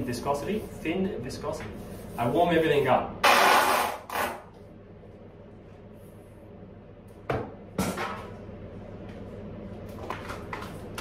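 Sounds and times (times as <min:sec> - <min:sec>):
room heater humming: 0:00.0 - 0:11.0.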